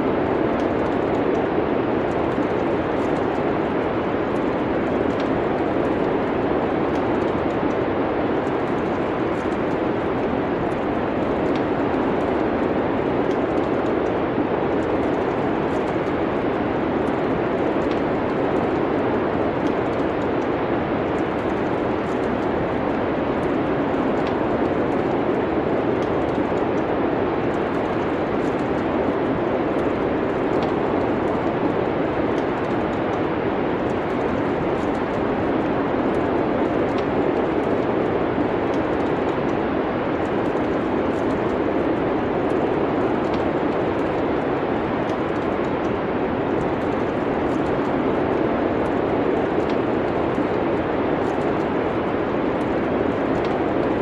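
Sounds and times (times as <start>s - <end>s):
rushing storm wind: 0.0s - 54.0s
wood fire crackles: 0.0s - 54.0s.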